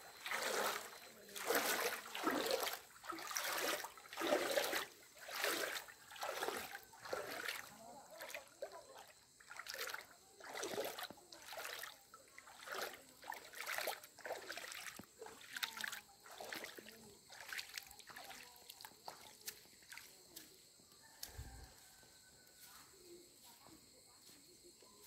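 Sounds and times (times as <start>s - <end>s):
footsteps wading through water: 0.0s - 22.0s.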